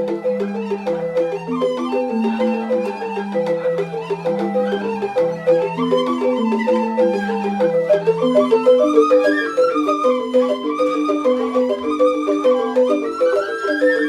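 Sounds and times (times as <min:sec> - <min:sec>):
bamboo xylophones playing: 0:00.0 - 0:14.0.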